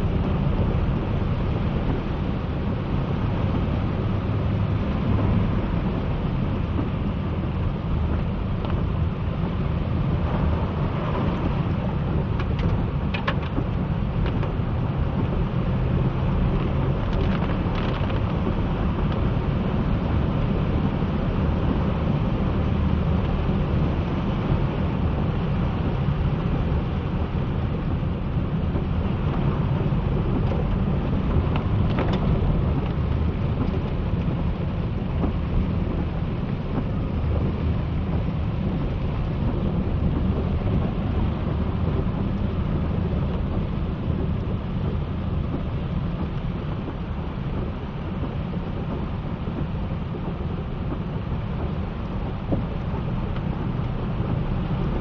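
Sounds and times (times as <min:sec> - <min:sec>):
deep low rumble: 0:00.0 - 0:55.0
heavy rain falling: 0:00.0 - 0:55.0.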